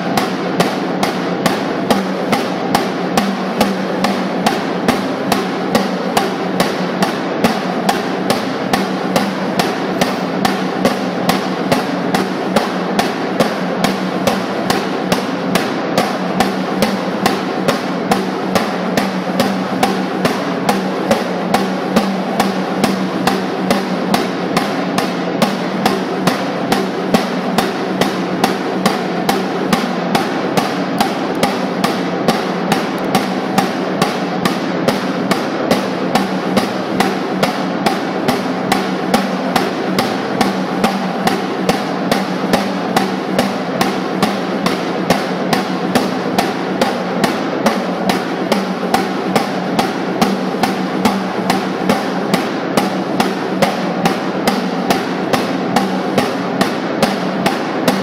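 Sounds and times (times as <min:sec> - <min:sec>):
snare drum roll: 0:00.0 - 0:58.0.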